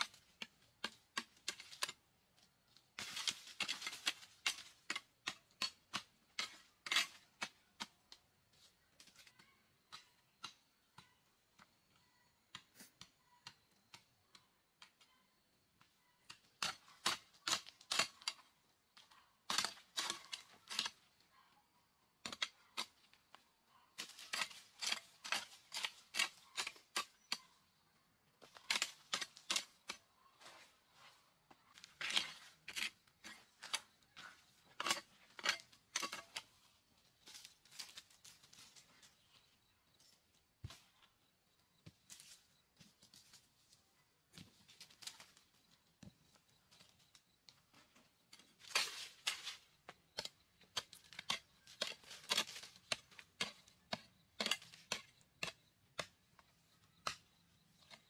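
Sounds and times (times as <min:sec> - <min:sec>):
metal hoe scraping stony ground: 0:00.0 - 0:11.2, 0:16.2 - 0:21.4, 0:22.2 - 0:41.2, 0:41.8 - 0:58.0.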